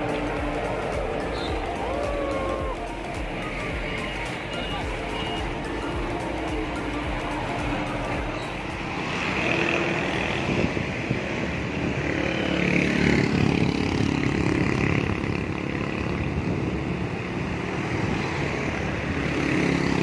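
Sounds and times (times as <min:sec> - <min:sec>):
road traffic engines: 0:00.0 - 0:20.0.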